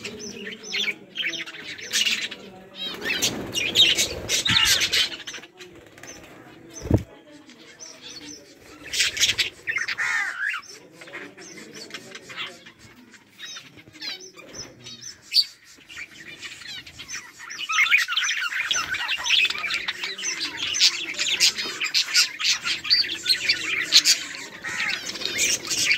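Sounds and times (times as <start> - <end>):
budgerigars chirping and warbling: 0.0 - 25.9.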